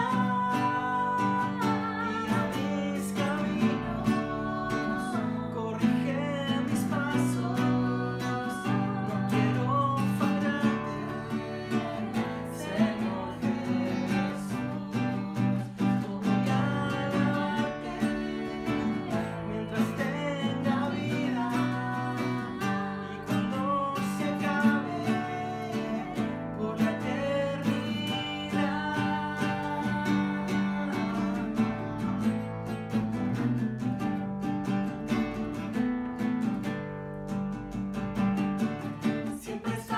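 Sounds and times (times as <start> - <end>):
worship song on acoustic guitar: 0.0 - 39.9.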